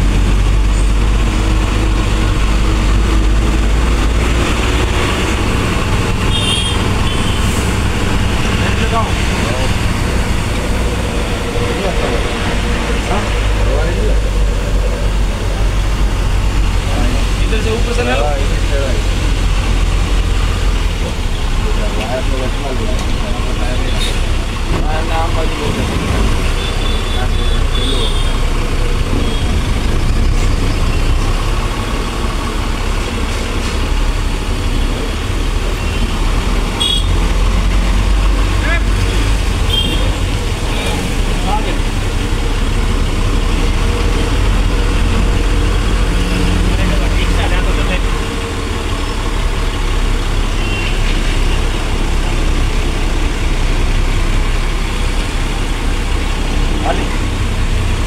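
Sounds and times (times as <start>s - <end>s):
bus engine low rumble: 0.0s - 58.0s.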